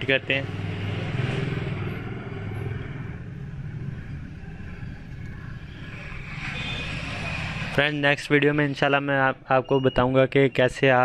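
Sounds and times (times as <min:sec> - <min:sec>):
vehicle engine rumbling: 0:00.0 - 0:08.9.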